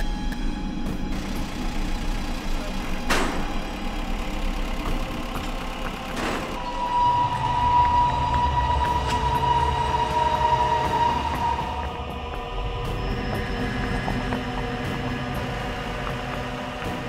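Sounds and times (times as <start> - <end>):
deep engine rumble: 0.0 - 17.0
steady whine: 0.0 - 17.0.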